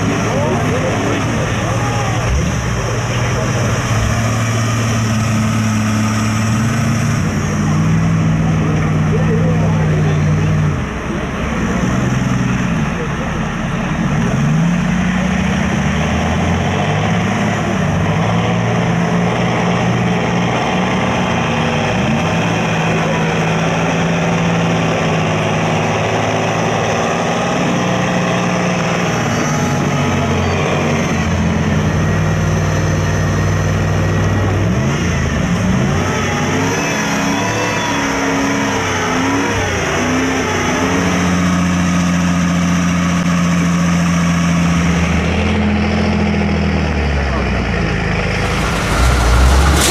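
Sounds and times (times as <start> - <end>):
truck engines revving: 0.0 - 49.9.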